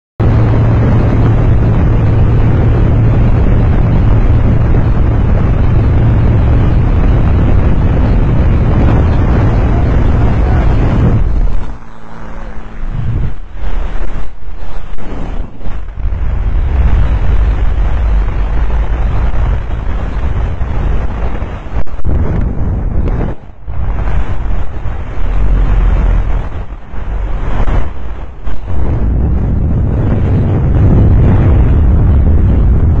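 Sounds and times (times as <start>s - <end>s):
plane engine and propeller drone: 0.2s - 33.0s
wind buffeting microphone: 0.2s - 33.0s.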